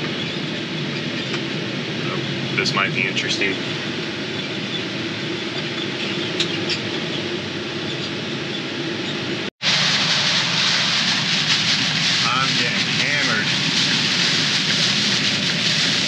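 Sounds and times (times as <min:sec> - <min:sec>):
heavy rain and wind on truck: 0:00.0 - 0:16.0
truck cab engine drone: 0:00.0 - 0:16.0.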